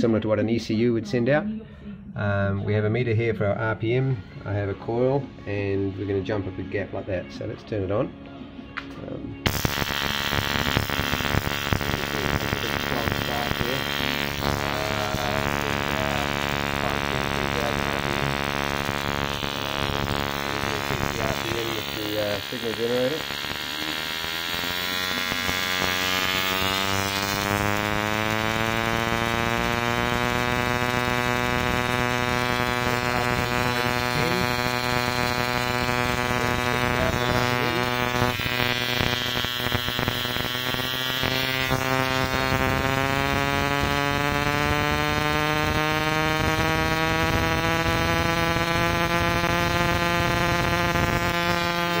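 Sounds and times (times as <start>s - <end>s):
ignition coil sparking buzz: 9.4s - 52.0s.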